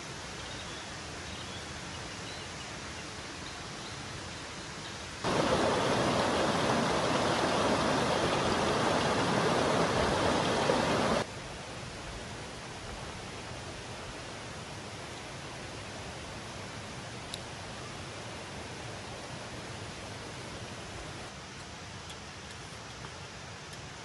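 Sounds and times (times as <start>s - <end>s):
steady hiss: 0.0s - 24.0s
stream running over rocks: 4.0s - 24.0s.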